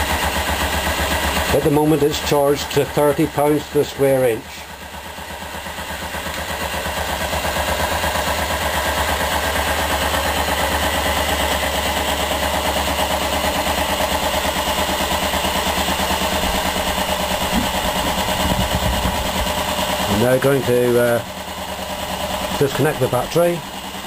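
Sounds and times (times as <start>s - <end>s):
engine mechanical clatter: 0.0s - 24.0s.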